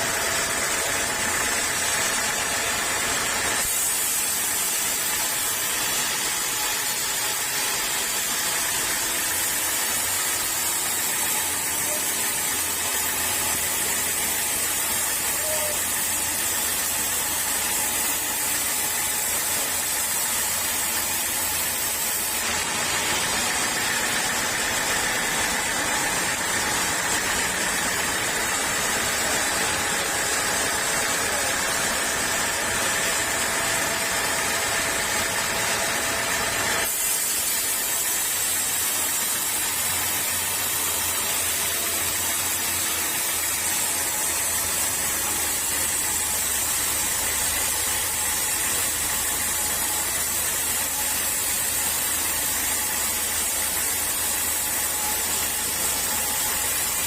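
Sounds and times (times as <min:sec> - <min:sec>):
sawmill saw hissing: 0:00.0 - 0:57.0.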